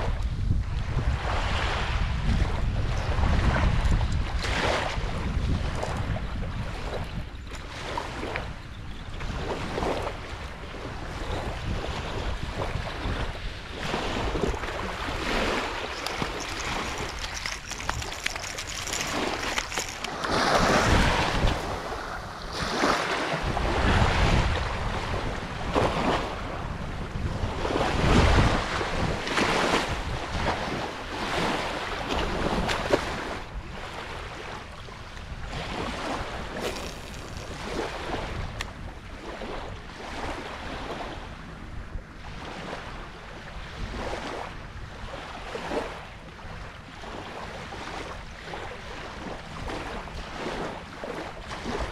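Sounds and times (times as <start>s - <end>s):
small waves lapping at shoreline: 0.0s - 51.9s
wind gusting over microphone: 0.0s - 51.9s.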